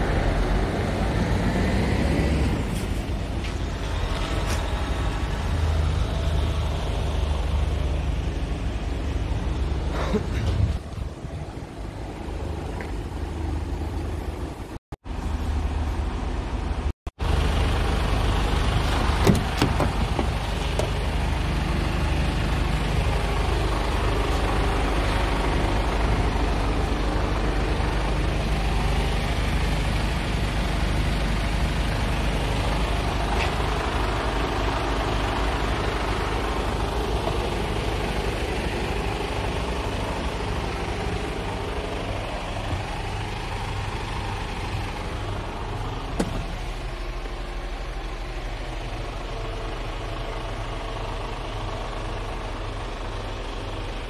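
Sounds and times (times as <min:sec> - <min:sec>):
diesel truck idling: 0:00.0 - 0:54.0.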